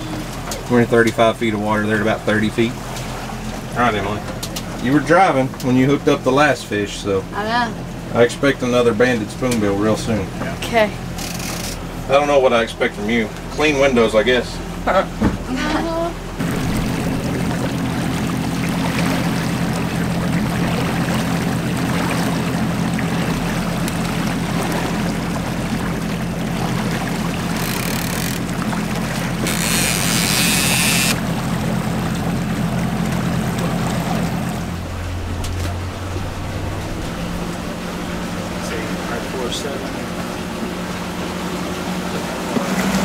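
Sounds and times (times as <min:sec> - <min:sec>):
boat motor humming: 0:00.0 - 0:43.0
water around hull: 0:00.0 - 0:43.0.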